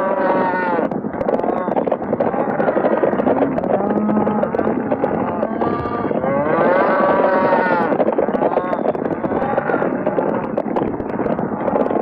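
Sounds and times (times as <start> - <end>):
cattle bellowing: 0.0 - 10.7
hooves rumbling: 0.0 - 12.0.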